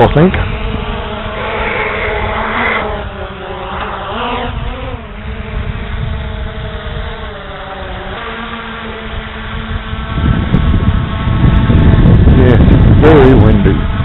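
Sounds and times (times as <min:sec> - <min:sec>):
drone propellers whining: 0:00.0 - 0:14.0
wind rumble on microphone: 0:00.0 - 0:14.0.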